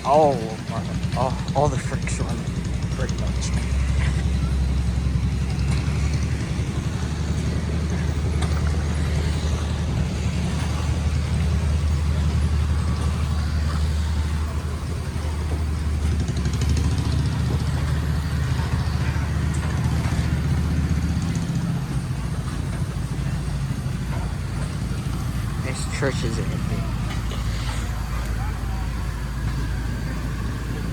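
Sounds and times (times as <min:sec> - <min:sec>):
engine rumbling: 0:00.0 - 0:30.9.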